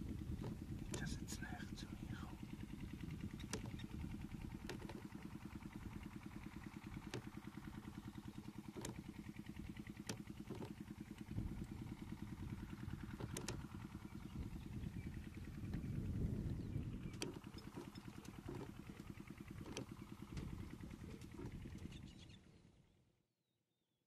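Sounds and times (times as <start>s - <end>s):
vehicle engine idling: 0.0s - 22.9s.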